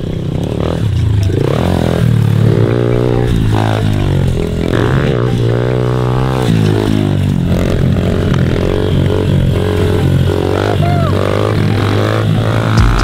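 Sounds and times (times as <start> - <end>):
small motorbike engine revving: 0.0 - 13.0.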